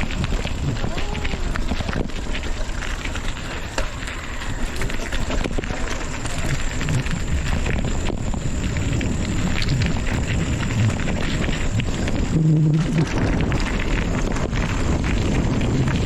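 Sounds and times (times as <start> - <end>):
crackles and clicks: 0.0 - 16.0
wind buffeting microphone: 0.0 - 16.0.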